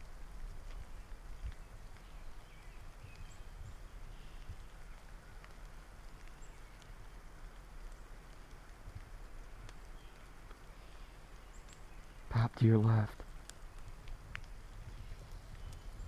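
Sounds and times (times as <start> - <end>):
wind rumbling on microphone: 0.0 - 10.8, 13.2 - 16.0.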